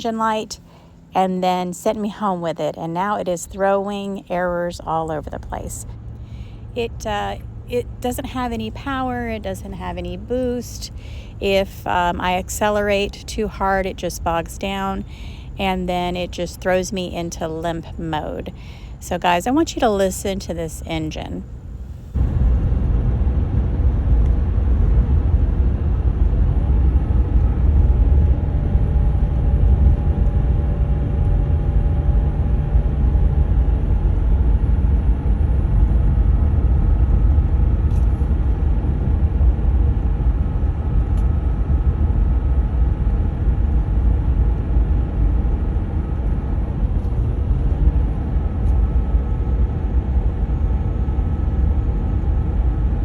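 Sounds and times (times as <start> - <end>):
diesel engine low rumble: 0.0 - 53.0
faint whining tones: 0.0 - 53.0.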